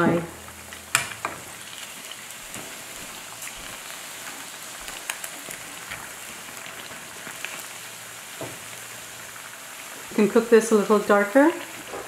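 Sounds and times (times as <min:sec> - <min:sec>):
oil sizzling with pops: 0:00.0 - 0:12.0.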